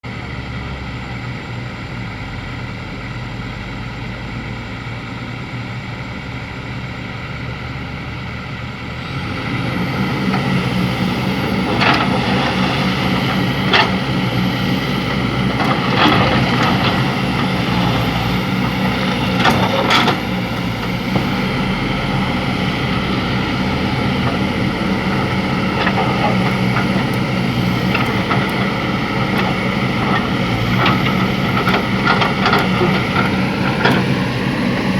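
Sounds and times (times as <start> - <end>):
excavator engine running: 0.1 - 34.9.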